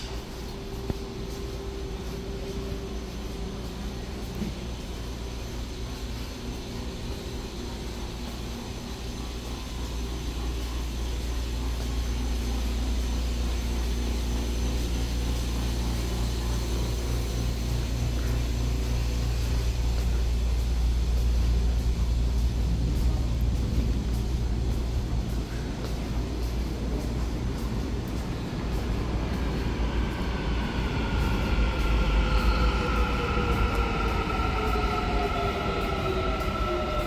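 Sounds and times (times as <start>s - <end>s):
subway train rumble: 0.0s - 37.0s.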